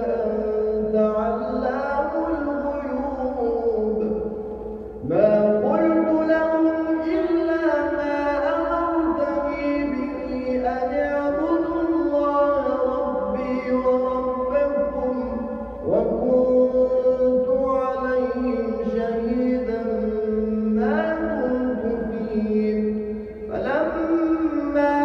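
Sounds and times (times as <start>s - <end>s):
man chanting melodic phrases: 0.0s - 25.0s.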